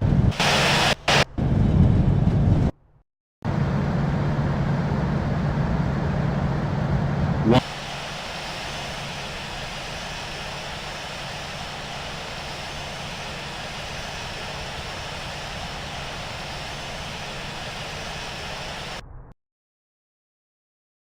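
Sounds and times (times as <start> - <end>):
jet engine and airflow noise: 0.0 - 19.4.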